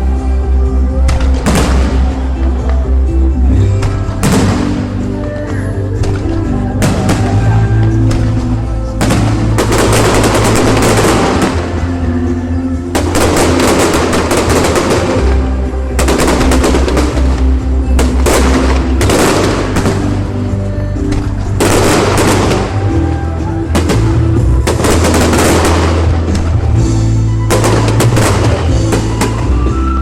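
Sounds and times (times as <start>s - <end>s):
music playing: 0.0s - 30.0s
fireworks crackling bangs: 1.1s - 2.8s, 3.8s - 12.0s, 13.0s - 23.1s, 23.7s - 29.7s.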